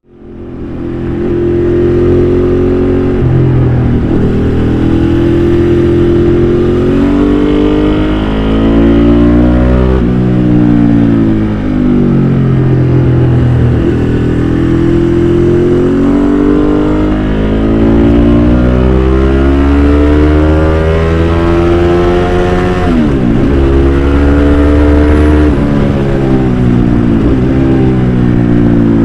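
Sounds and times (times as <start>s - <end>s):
motorcycle engine revving up: 0.3s - 29.0s.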